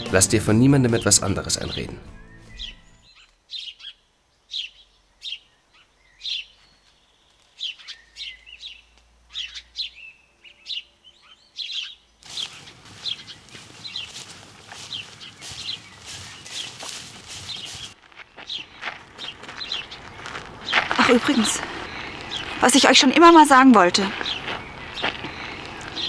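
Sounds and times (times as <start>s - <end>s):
small birds chirping: 1.0s - 26.0s
steady outdoor hiss: 3.1s - 26.0s.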